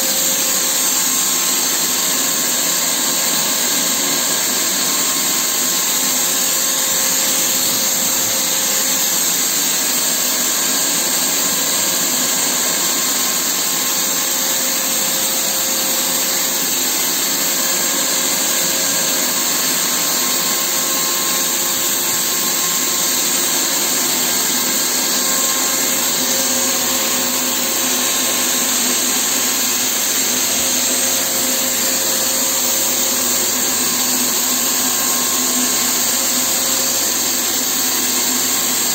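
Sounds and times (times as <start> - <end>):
paint sprayer blower running: 0.0 - 38.9.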